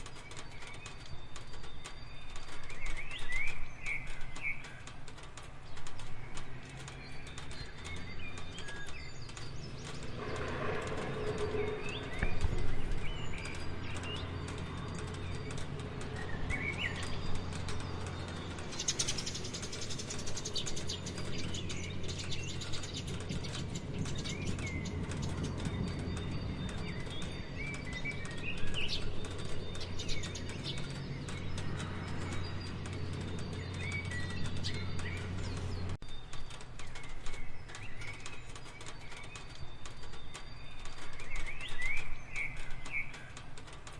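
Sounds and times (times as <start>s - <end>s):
small birds chirping: 0.0s - 43.9s
steady rain falling: 0.0s - 43.9s.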